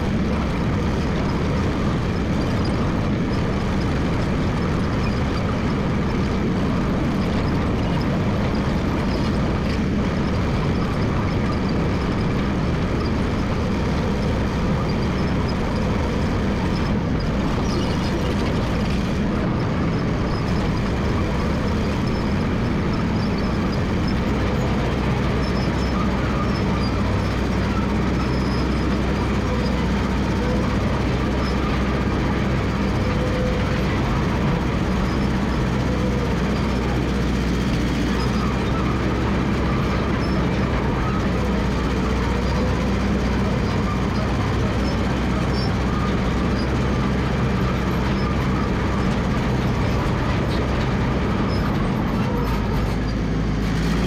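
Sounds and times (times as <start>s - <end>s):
dozer engine running: 0.0s - 54.0s.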